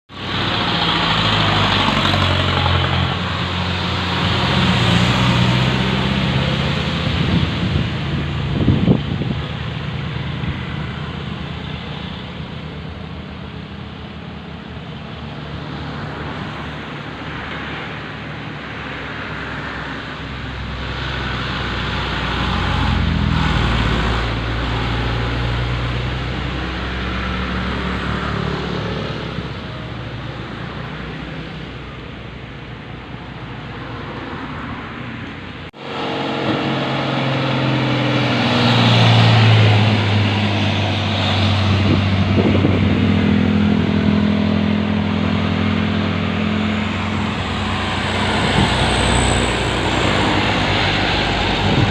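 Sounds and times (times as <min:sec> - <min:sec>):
dump truck diesel engines passing: 0:00.1 - 0:51.9.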